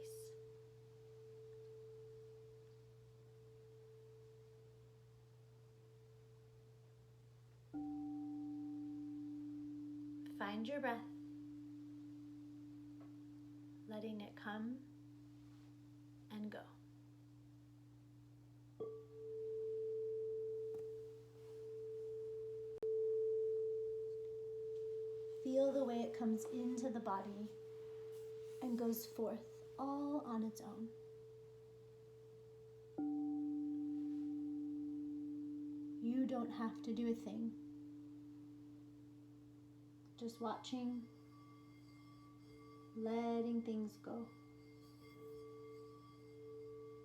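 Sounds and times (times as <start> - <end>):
faint ringing tone: 0.0 - 17.8, 18.8 - 47.0.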